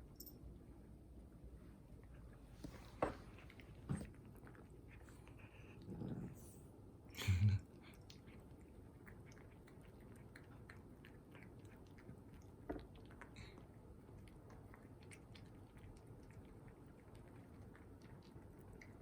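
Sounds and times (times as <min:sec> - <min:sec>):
cat chewing a treat: 0:01.9 - 0:06.2, 0:07.6 - 0:19.0.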